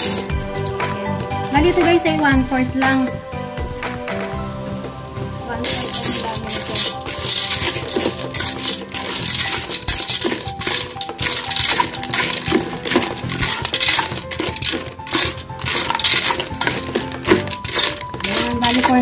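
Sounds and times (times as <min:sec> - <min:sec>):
dry pasta rattling in metal pot: 0:00.0 - 0:02.2, 0:05.6 - 0:19.0
background music: 0:00.0 - 0:19.0.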